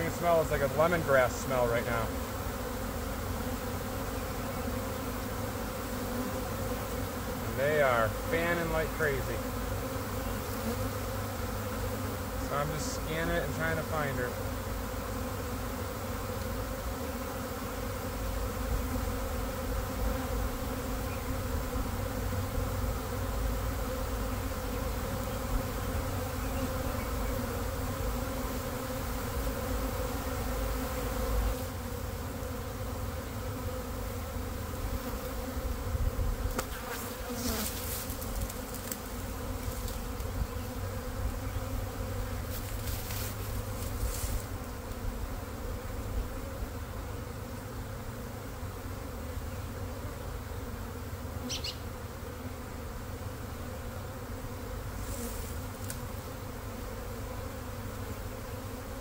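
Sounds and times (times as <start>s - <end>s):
bee swarm buzzing: 0.0s - 59.0s.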